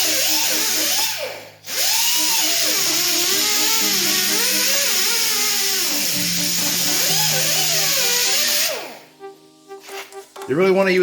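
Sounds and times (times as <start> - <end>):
rotary grinder whining: 0.0 - 9.1.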